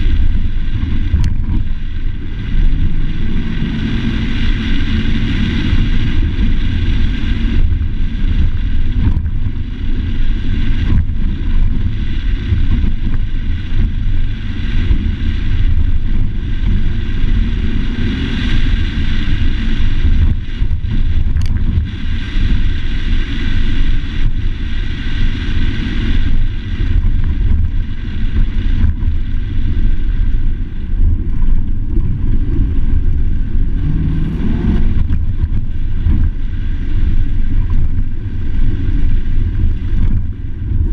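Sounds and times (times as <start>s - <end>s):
tyres on dirt road: 0.0s - 23.6s, 25.3s - 40.9s
truck engine rumble: 0.0s - 24.8s, 25.5s - 40.9s
wind: 0.0s - 40.9s.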